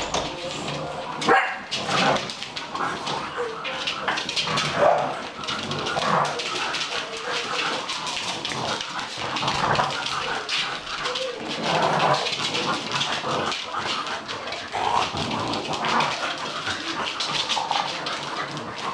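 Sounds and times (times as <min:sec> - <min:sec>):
claws clicking on wood floor: 0:00.0 - 0:18.9
puppies making dog noises: 0:00.0 - 0:18.9.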